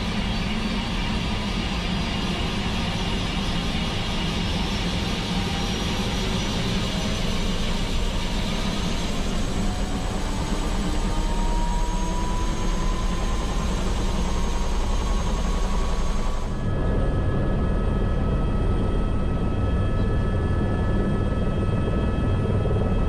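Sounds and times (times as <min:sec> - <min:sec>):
helicopter rotor and turbine: 0:00.0 - 0:23.0
thin turbine whine: 0:00.0 - 0:23.0.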